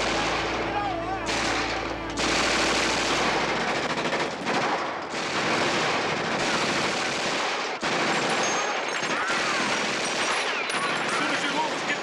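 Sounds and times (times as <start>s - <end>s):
rapid automatic gunfire: 1.3s - 12.0s.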